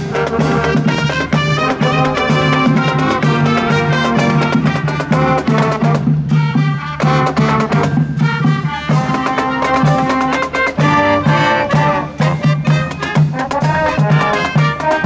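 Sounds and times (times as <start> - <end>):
brass band marching: 0.0 - 15.0
steady drumbeat: 0.0 - 15.0.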